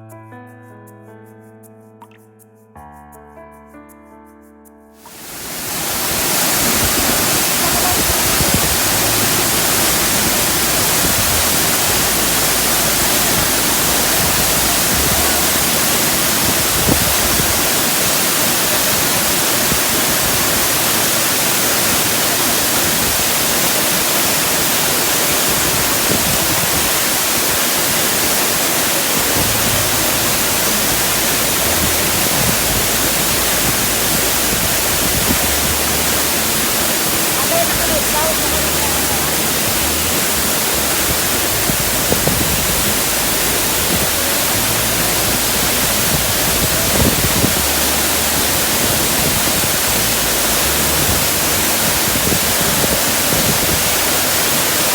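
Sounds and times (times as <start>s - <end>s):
waterfall rushing: 5.1s - 54.9s.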